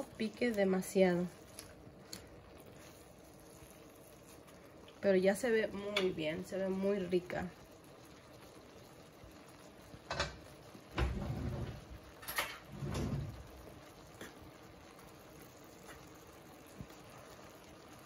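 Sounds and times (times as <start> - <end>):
faint hiss from pan: 0.0 - 18.0.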